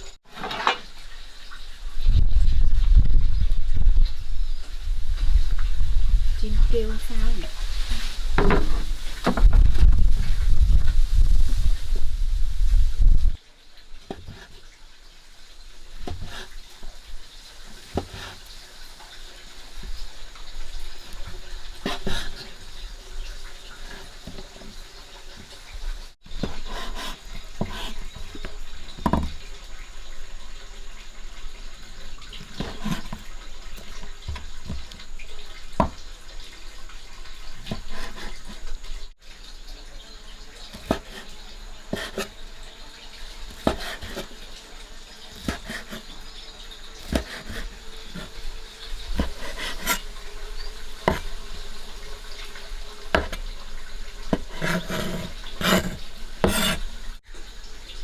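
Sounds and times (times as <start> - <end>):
water running and splashing: 0.0 - 58.0.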